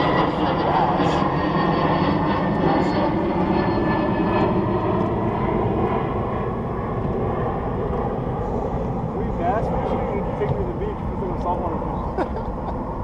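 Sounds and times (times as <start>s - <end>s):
aircraft passing rumble: 0.0s - 13.0s.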